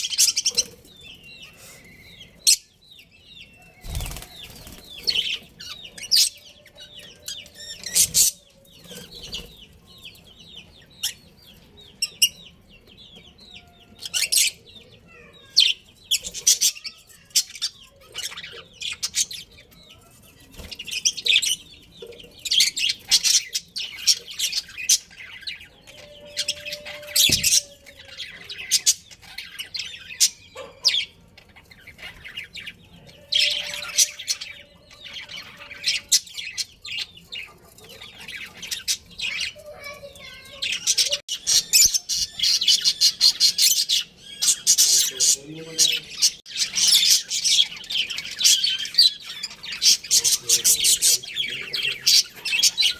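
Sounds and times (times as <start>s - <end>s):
budgerigars chirping and chattering: 0.0s - 52.9s.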